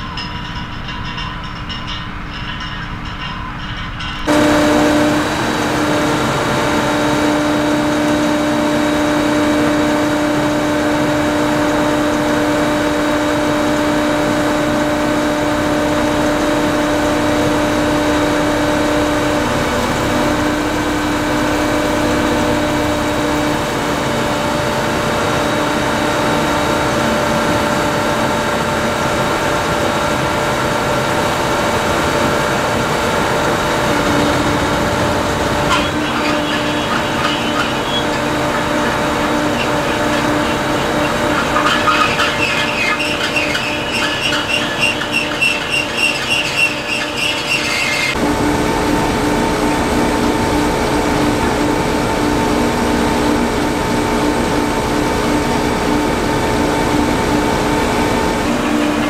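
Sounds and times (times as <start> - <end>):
constant machine hum: 0.0 - 59.0
trailer conveyors mechanical din: 0.0 - 59.0.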